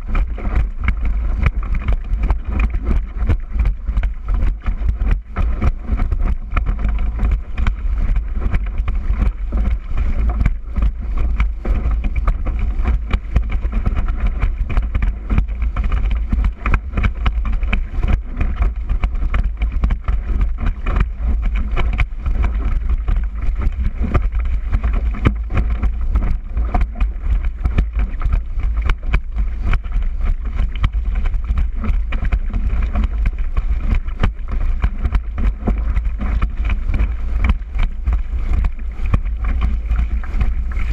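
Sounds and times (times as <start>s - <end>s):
board slapping water: 0.0s - 40.9s
wind rumbling on microphone: 0.0s - 40.9s.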